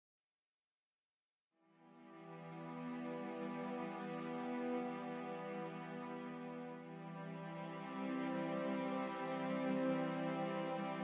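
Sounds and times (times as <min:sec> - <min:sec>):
soft background music: 0:01.6 - 0:11.0.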